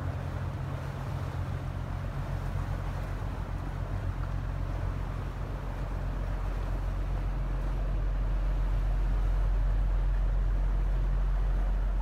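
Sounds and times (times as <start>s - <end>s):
ship diesel engine drone: 0.0s - 12.0s
water wash: 0.0s - 12.0s
wind: 0.0s - 12.0s.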